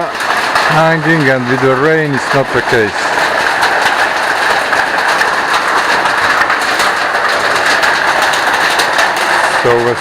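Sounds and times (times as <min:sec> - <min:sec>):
waterfall pouring and splashing: 0:00.0 - 0:10.0.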